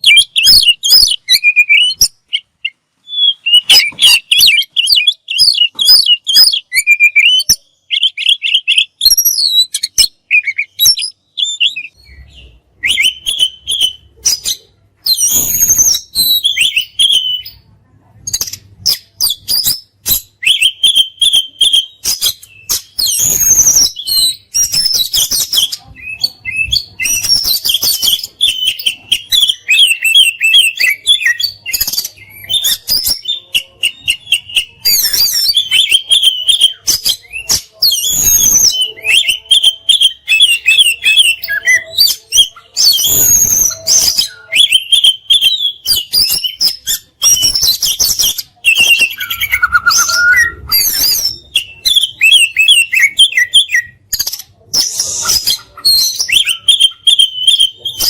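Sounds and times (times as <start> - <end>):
songbird singing rapid phrases: 0.0 - 17.6, 18.2 - 58.0.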